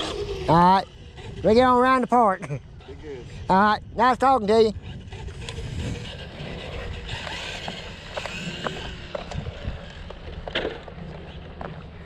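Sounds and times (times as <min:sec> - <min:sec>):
wind rumble on microphone: 0:00.0 - 0:02.1, 0:02.7 - 0:12.0.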